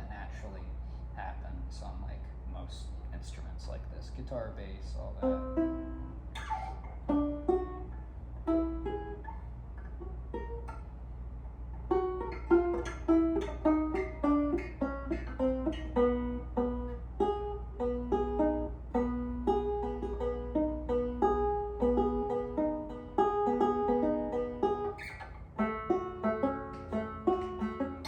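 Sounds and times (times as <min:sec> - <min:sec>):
faint low hum: 0:00.0 - 0:28.0
banjo picking: 0:04.6 - 0:28.0.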